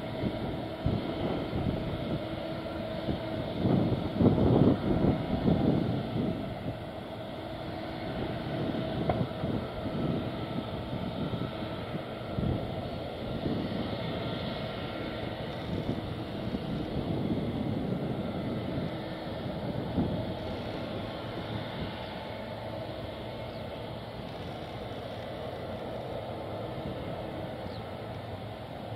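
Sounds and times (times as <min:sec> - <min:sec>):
jet engines idling: 0:00.0 - 0:28.9
wind gusts on microphone: 0:00.0 - 0:28.9.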